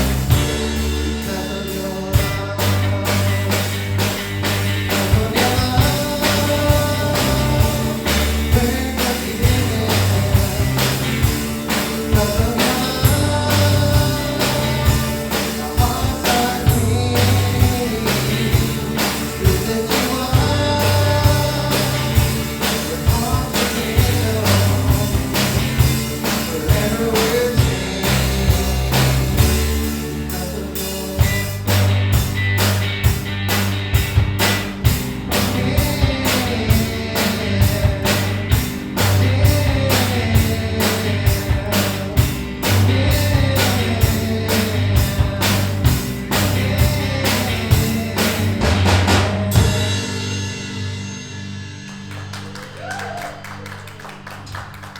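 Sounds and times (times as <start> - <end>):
voices singing: 0.0 - 31.7, 35.3 - 50.2
drum beat: 0.0 - 50.2
rock worship band playing: 0.0 - 54.9.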